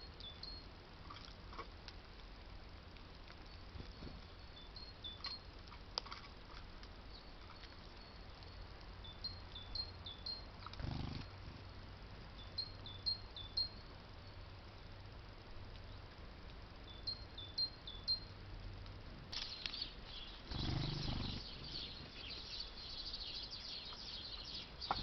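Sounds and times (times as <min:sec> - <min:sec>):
low background noise: 0:00.0 - 0:25.0.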